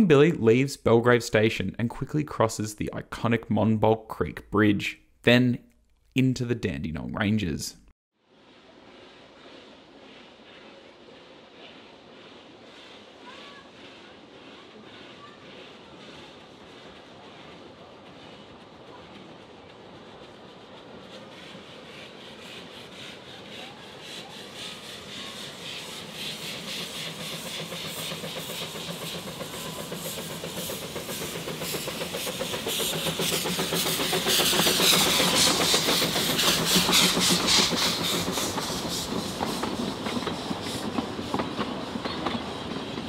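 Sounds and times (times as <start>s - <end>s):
steam hissing: 8.3s - 43.0s
steam train chuffing: 8.3s - 43.0s.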